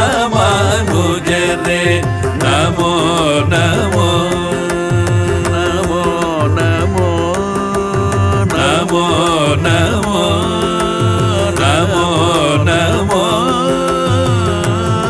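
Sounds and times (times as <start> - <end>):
mridangam drum strokes: 0.0 - 15.0
veena: 0.0 - 15.0
violin: 0.0 - 15.0
voices singing: 0.0 - 15.0.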